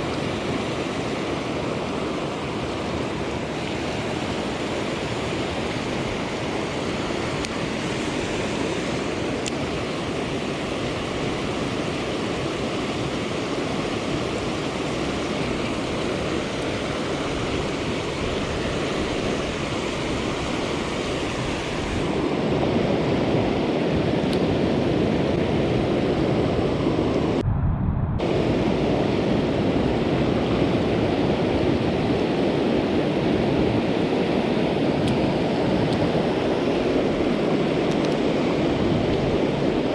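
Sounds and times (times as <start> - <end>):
fast-flowing stream rushing: 0.0 - 27.4, 28.2 - 39.9.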